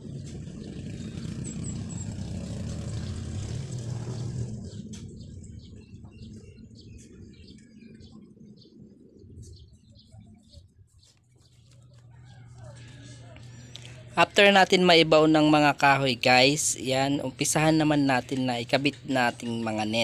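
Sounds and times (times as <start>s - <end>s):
road vehicle passing by: 0.0s - 7.8s, 11.5s - 20.0s
birds chirping: 0.0s - 20.0s.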